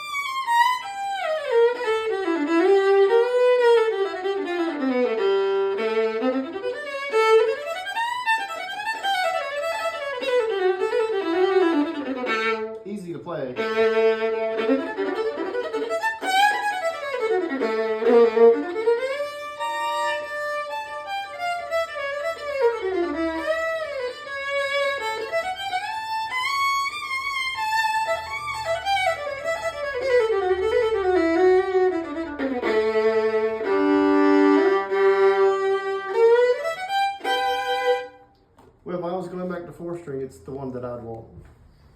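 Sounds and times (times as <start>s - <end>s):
fiddle bowed: 0.0s - 38.4s.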